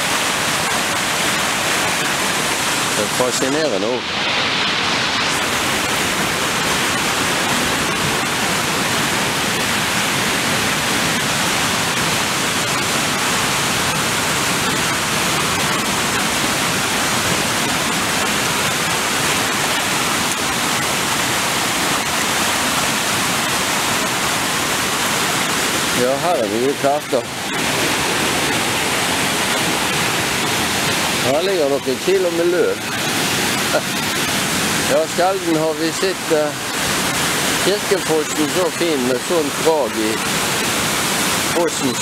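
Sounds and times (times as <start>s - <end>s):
rushing white water: 0.0s - 42.0s.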